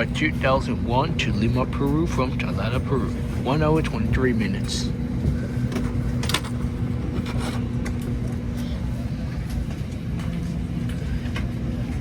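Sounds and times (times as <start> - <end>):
aircraft cabin hum: 0.0 - 12.0.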